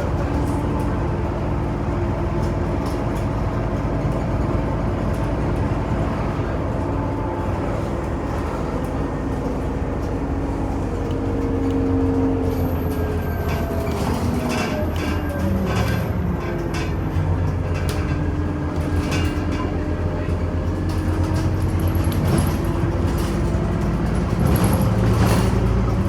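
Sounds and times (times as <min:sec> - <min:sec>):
bus engine hum from inside: 0:00.0 - 0:26.0.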